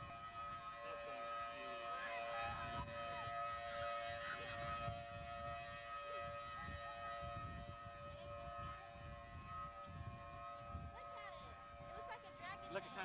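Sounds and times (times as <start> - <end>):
tornado warning sirens wailing: 0.0 - 13.0
wind rumble on microphone: 2.4 - 13.0.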